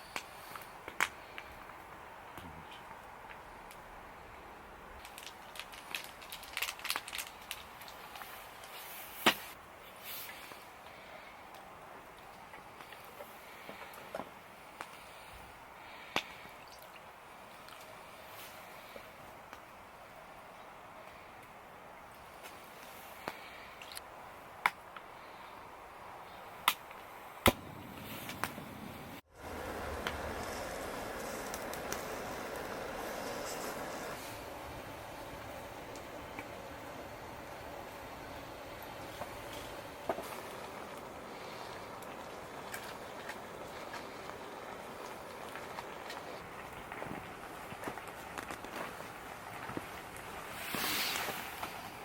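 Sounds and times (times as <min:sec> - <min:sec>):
low steady hiss: 0:00.0 - 0:52.0.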